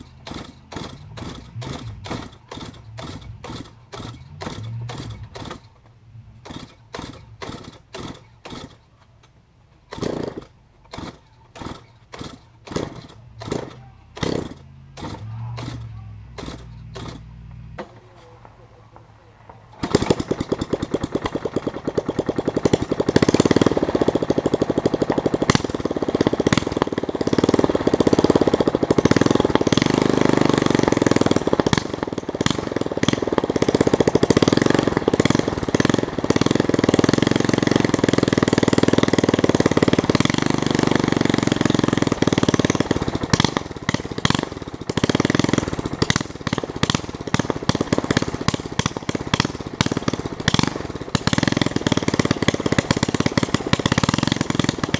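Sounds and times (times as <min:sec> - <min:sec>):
lawn mower engine rattling: 0:00.0 - 0:54.9.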